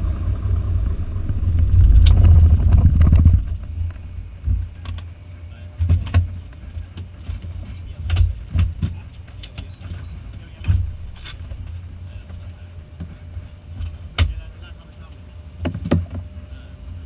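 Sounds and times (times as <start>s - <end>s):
low rumble: 0.0s - 14.5s.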